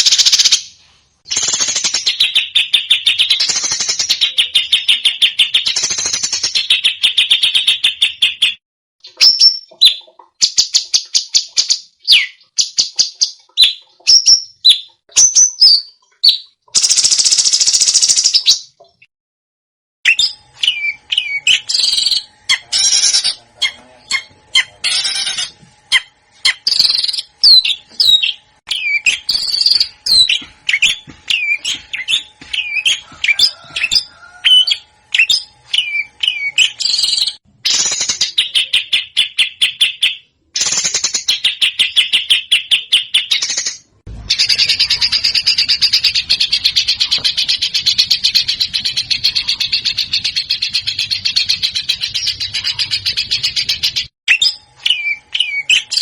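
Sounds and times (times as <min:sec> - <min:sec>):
songbird song: 0:01.3 - 0:19.1, 0:20.1 - 0:40.2, 0:44.3 - 0:56.0.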